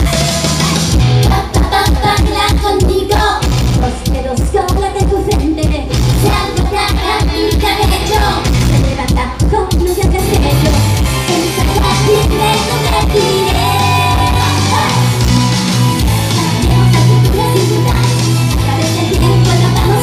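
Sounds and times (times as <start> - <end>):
loud rock music: 0.0 - 20.0
steady drum beat: 0.0 - 20.0
woman singing into microphone: 1.2 - 15.1, 16.3 - 20.0.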